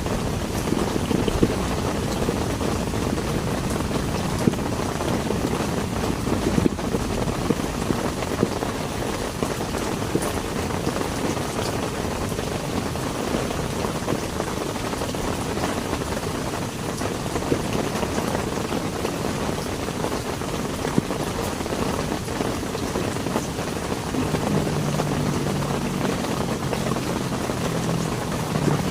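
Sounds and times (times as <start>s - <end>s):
heavy rain: 0.0s - 28.9s
raindrops striking: 0.0s - 28.9s.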